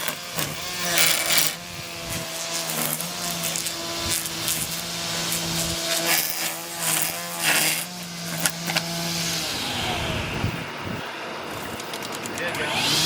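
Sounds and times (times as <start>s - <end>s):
motor winding down whine: 0.0s - 11.0s, 12.5s - 13.0s
trimmer line cutting bursts: 0.0s - 11.0s, 12.4s - 13.0s
string trimmer running: 0.0s - 13.0s.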